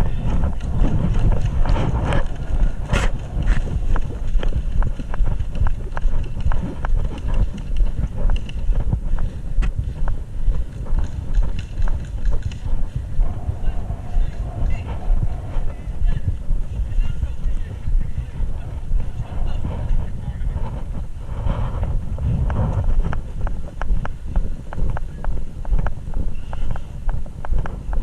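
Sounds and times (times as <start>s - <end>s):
footsteps: 0.0s - 28.0s
wind rumble on microphone: 0.0s - 28.0s.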